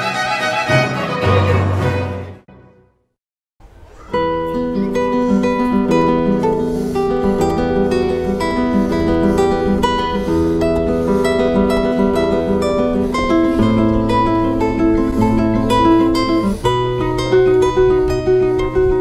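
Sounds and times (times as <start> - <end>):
fingerstyle classical guitar: 3.8 - 19.0.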